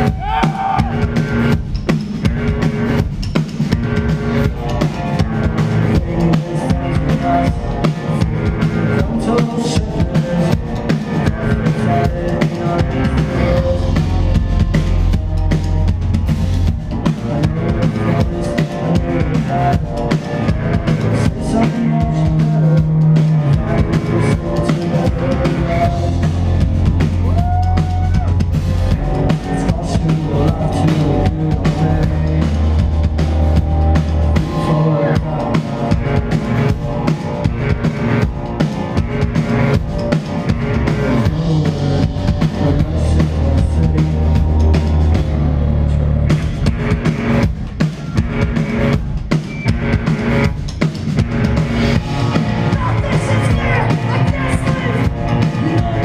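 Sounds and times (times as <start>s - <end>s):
bass guitar long low notes: 0.0s - 56.0s
loud live rock band: 0.0s - 56.0s.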